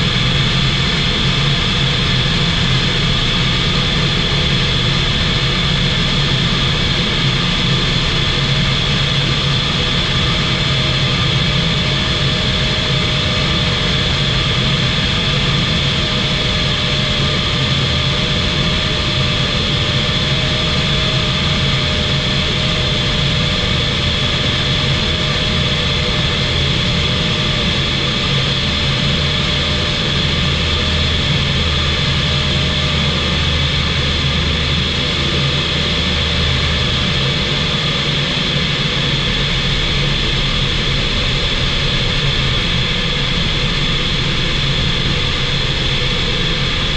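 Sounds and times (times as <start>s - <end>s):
light aircraft engine drone: 0.0s - 46.9s.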